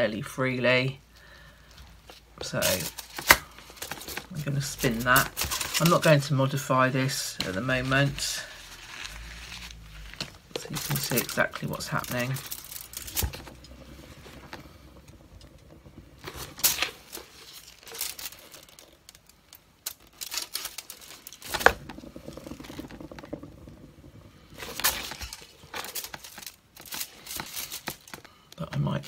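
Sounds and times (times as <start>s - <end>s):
aluminium foil crinkling: 2.0s - 23.5s, 24.1s - 29.0s.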